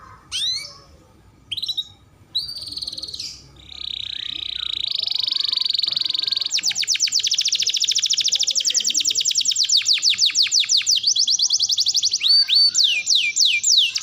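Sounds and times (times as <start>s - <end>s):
canary singing trills: 0.0s - 0.9s, 1.5s - 14.0s.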